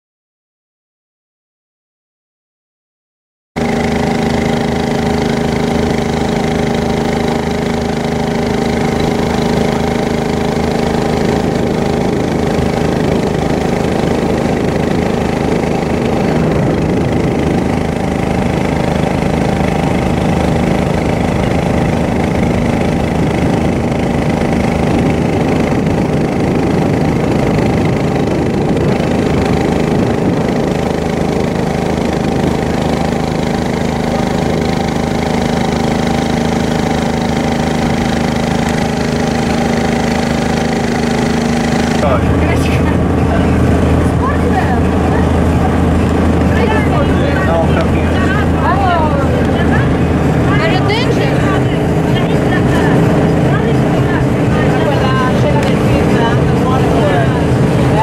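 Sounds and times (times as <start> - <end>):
boat engine running: 3.6 - 58.0.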